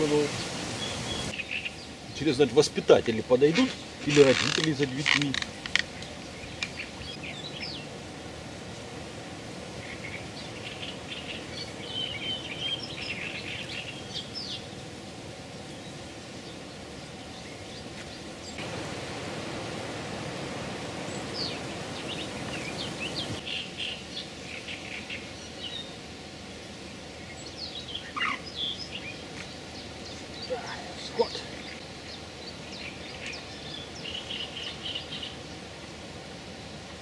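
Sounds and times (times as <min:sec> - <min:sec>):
small birds chirping: 0:00.0 - 0:08.0, 0:09.7 - 0:18.9, 0:21.0 - 0:35.9
low background noise: 0:00.0 - 0:37.0.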